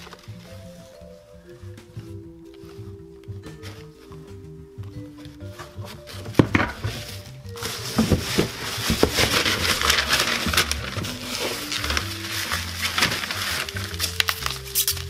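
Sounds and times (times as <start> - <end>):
tissue paper rustling: 0.0 - 4.3, 5.4 - 15.0
background music: 0.0 - 15.0.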